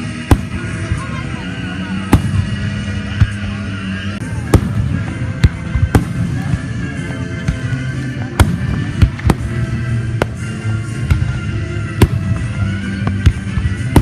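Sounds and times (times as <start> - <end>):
continuous background din: 0.0 - 14.0
fireworks bangs: 0.1 - 1.2, 2.0 - 3.4, 4.3 - 7.8, 8.4 - 14.0.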